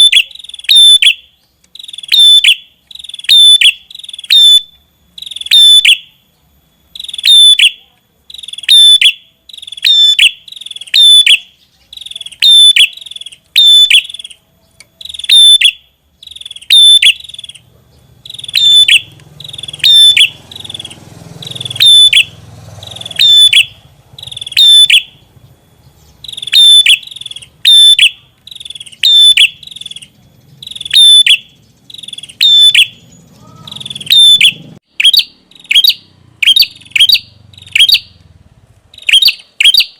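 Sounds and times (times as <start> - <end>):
bird singing sharp high call: 0.0 - 38.2, 39.0 - 39.9.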